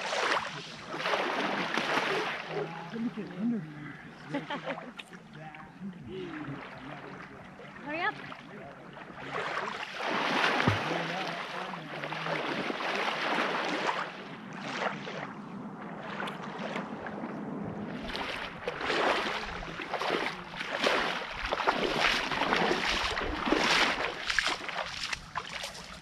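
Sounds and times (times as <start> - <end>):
splashes of person wading: 0.0 - 5.2, 6.1 - 15.4, 16.0 - 26.0
small waves lapping at shore: 0.0 - 26.0.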